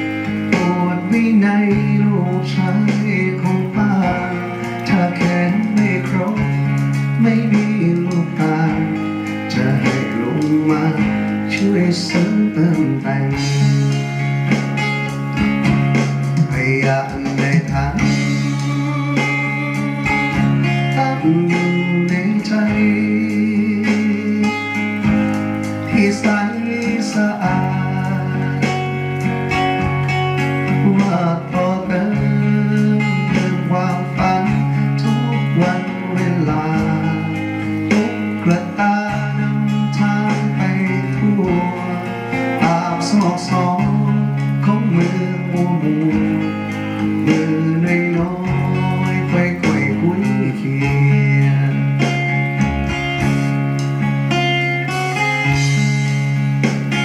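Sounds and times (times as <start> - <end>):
guitar music over loudspeaker: 0.0 - 57.0
steady bass notes: 0.0 - 57.0.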